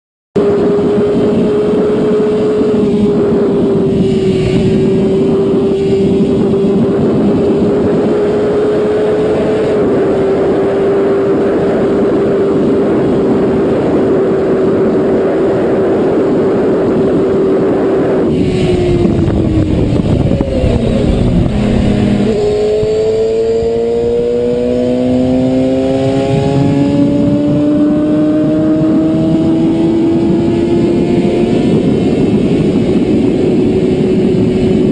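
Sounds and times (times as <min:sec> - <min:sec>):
motorcycle engine: 0:00.4 - 0:34.9
wind rush: 0:00.4 - 0:34.9.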